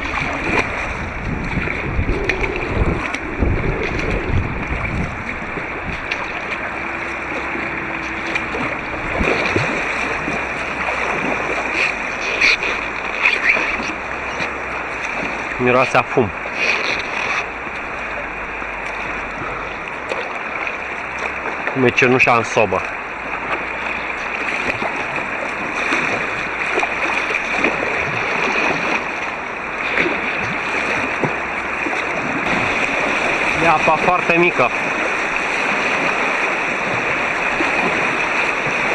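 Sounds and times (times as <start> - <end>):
muffled river water rushing: 0.0 - 38.9
sharp water splashes: 0.0 - 38.9.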